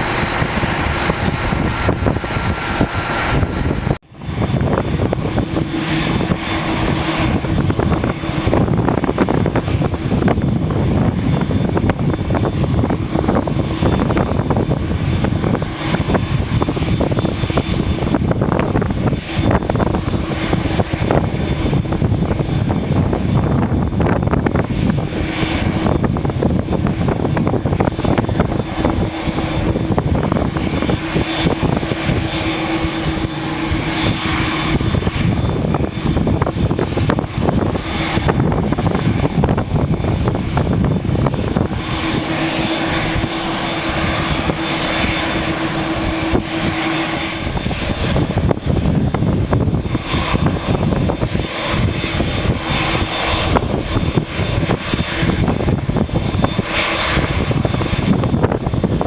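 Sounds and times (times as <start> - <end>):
jet engines at taxi power: 0.0 - 59.0
wind buffeting microphone: 0.0 - 59.0.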